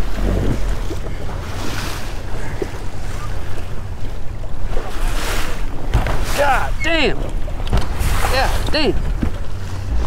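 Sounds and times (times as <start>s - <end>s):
waves slapping against boat: 0.0s - 10.0s
wind buffeting microphone: 0.0s - 10.0s.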